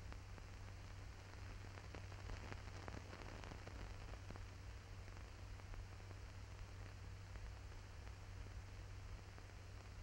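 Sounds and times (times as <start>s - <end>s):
crackles and pops: 0.0s - 10.0s
film soundtrack hiss: 0.0s - 10.0s.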